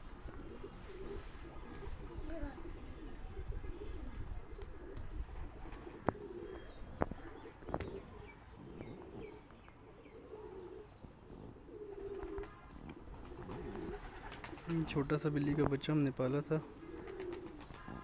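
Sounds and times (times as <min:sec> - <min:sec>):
pigeons cooing: 0:00.0 - 0:15.2, 0:16.4 - 0:18.0.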